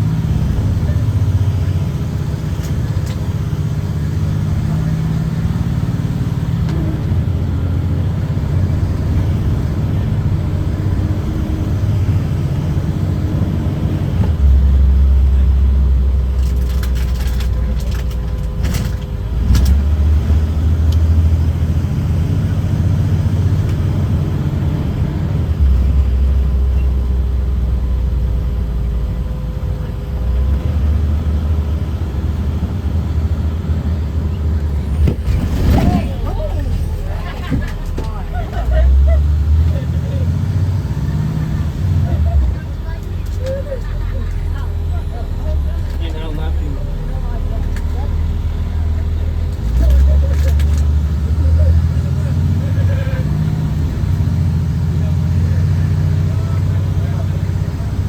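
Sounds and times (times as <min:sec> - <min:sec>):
diesel bus engine drone: 0:00.0 - 0:58.0.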